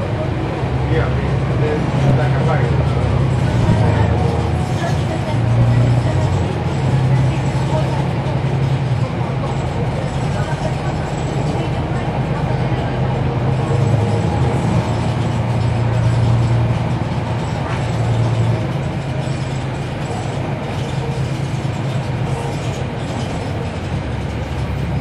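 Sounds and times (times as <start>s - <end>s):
bus diesel engine droning: 0.0s - 25.0s.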